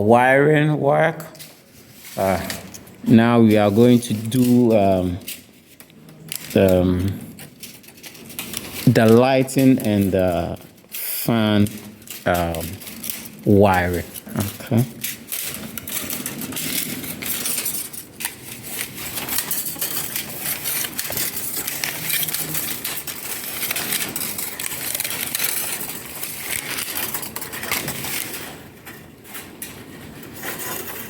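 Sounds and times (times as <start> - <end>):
cable rustling and scraping: 0.0 - 31.0.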